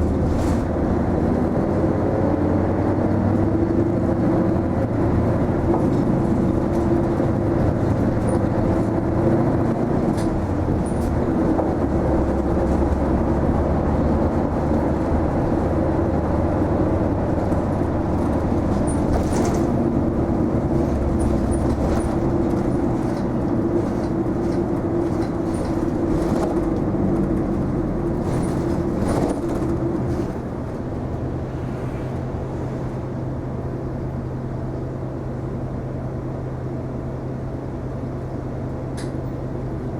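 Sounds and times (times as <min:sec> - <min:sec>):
bus running and road noise: 0:00.0 - 0:39.9.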